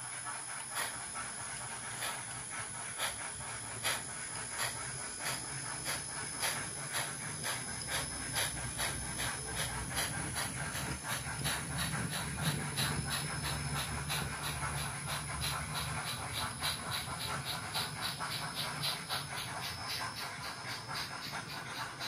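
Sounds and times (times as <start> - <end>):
steam exhaust chuffs from speaker: 0.0 - 22.0.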